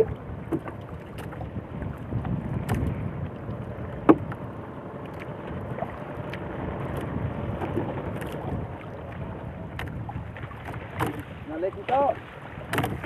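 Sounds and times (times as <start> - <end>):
water against boat: 0.0 - 13.0
wind on microphone: 0.0 - 13.0.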